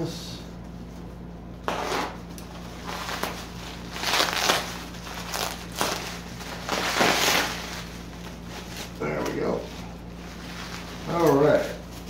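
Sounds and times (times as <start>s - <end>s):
bubble wrap crinkling: 1.7s - 12.0s.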